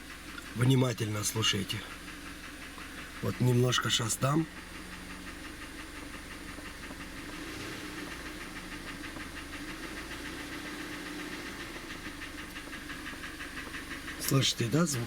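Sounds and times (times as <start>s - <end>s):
car engine knocking: 0.0s - 15.0s.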